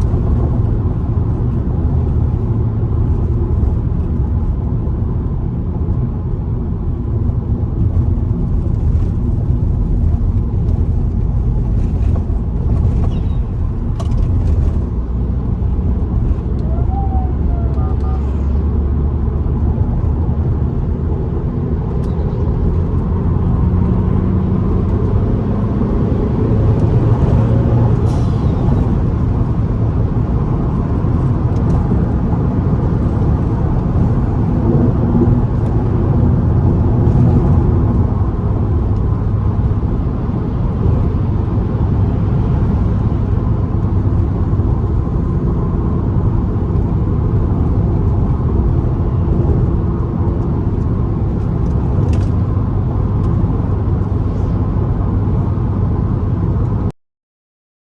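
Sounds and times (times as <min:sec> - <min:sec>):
road noise: 0:00.0 - 0:56.9
car engine accelerating: 0:07.0 - 0:56.9.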